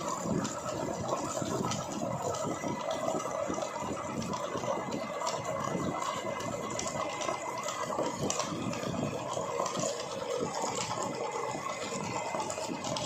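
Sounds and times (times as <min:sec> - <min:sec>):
electric meat grinder churning: 0:00.0 - 0:13.0.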